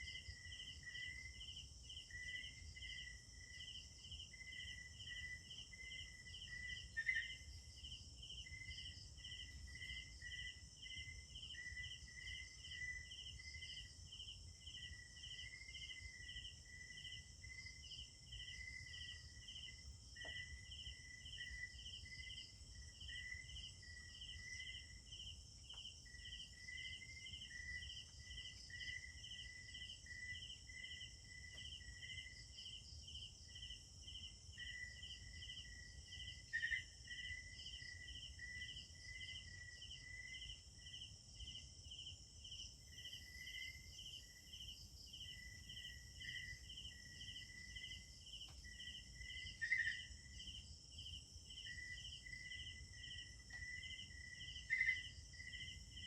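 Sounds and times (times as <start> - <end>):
insect chirping regularly: 0.0 - 56.0
insects chirping: 0.0 - 56.0.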